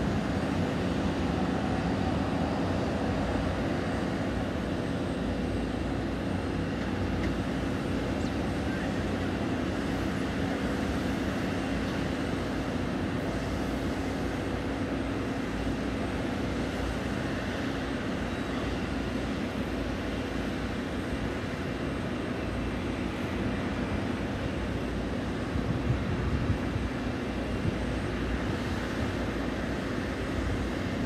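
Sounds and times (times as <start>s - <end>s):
distant jet engines idling: 0.0s - 31.0s.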